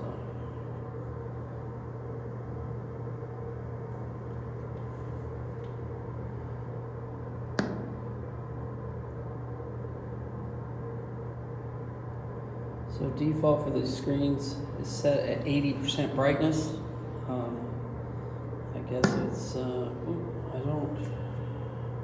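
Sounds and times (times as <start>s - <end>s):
electrical hum of computer fans: 0.0s - 22.0s.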